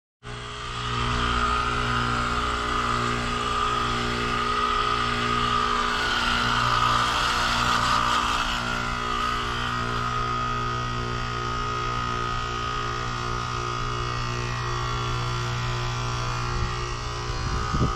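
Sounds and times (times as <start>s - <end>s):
heat pump compressor hum: 0.2s - 17.9s.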